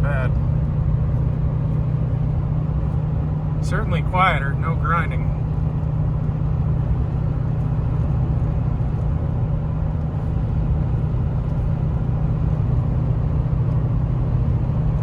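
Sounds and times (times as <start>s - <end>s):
pickup truck driving: 0.0s - 15.0s.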